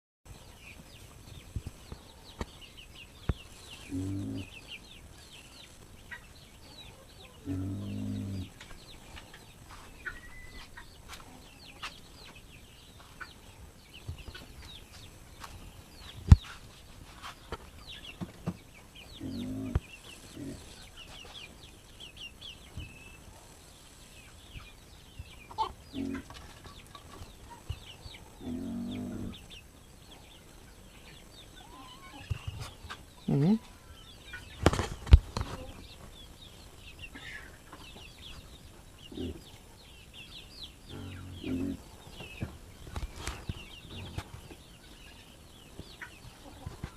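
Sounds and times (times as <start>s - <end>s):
chickens clucking: 0.3s - 46.9s
small birds chirping: 0.3s - 46.9s.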